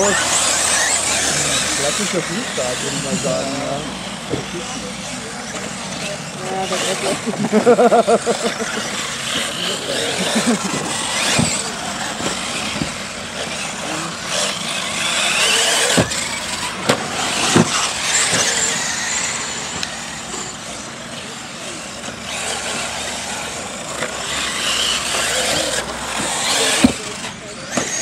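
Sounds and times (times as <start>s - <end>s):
electric motor whine: 0.0s - 28.0s
tyres on gravel: 0.0s - 28.0s.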